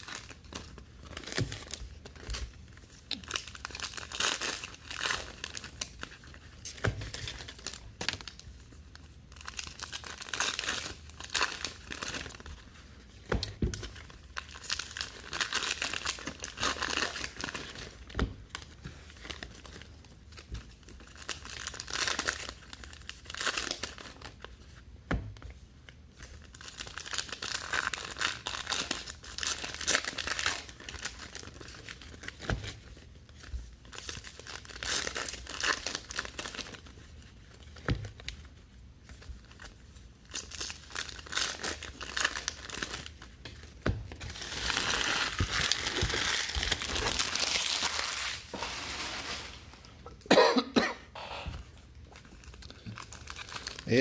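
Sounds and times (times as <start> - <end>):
wrappers crinkling and tearing: 0.0 - 24.9, 25.9 - 50.3, 51.7 - 54.0.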